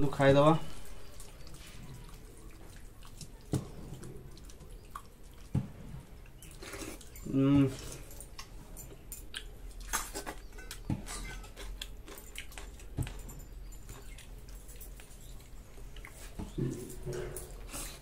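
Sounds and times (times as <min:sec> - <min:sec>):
chewing: 0:00.6 - 0:18.0.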